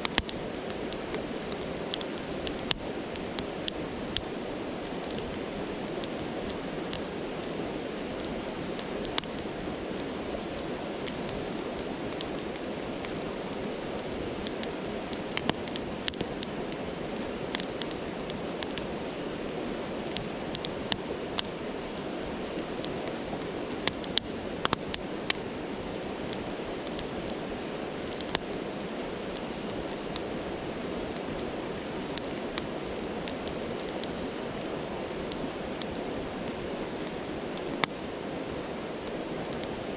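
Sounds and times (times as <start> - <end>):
campfire crackling and popping: 0.0 - 39.9
stream rushing: 0.0 - 39.9.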